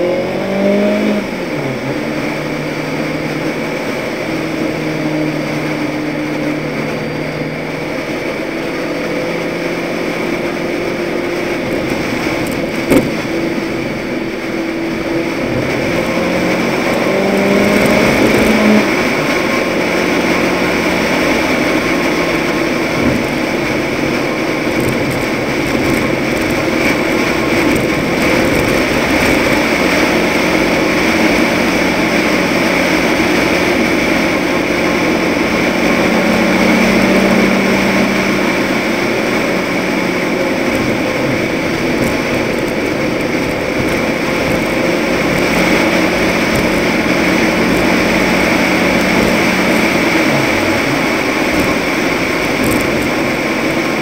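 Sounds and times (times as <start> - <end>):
truck engine drone: 0.0 - 54.0
tyre and wind noise: 0.0 - 54.0.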